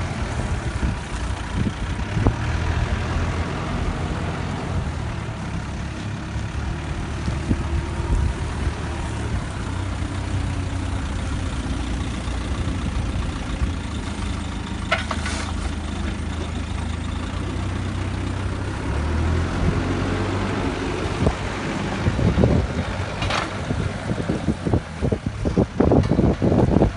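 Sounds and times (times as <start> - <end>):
diesel engine running: 0.0 - 26.9
tractor engine running: 0.0 - 26.9.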